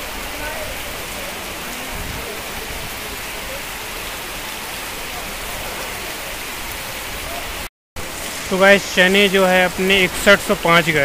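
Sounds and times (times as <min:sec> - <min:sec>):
heavy rain on pavement: 0:00.0 - 0:11.0.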